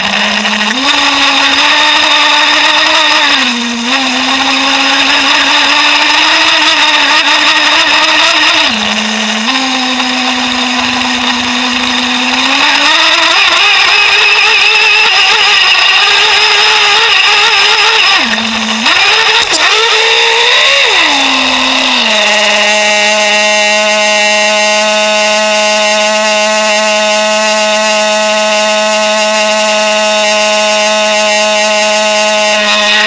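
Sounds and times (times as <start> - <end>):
small nitro engine revving: 0.0 - 33.0.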